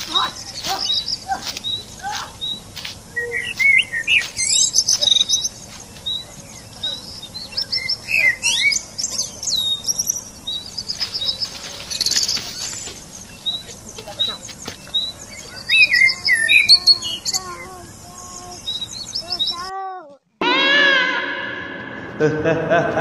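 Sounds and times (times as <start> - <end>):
quick bird chirps: 0.0 - 19.7.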